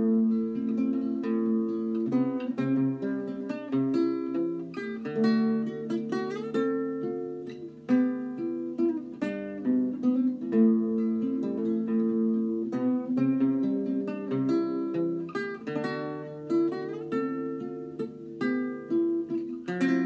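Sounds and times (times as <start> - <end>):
acoustic guitar folk tune: 0.0 - 20.0.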